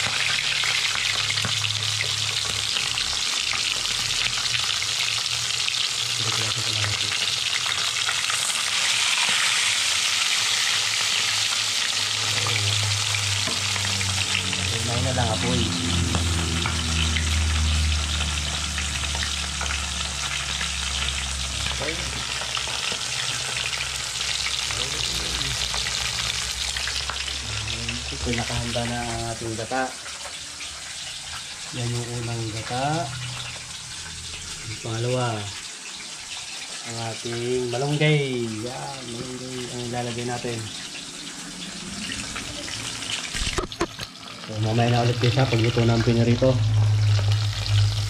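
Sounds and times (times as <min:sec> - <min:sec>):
fish sizzling in hot oil: 0:00.0 - 0:48.0.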